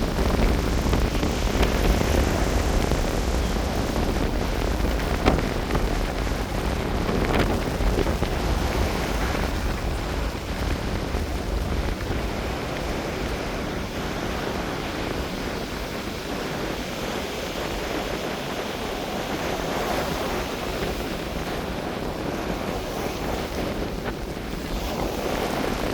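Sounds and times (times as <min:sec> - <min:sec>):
waves washing on beach: 0:00.0 - 0:25.9
wind blowing across microphone: 0:00.0 - 0:25.9.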